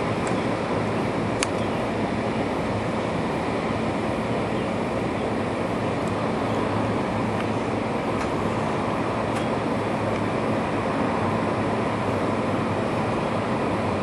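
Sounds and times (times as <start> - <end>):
distant engine rumble: 0.0 - 14.0.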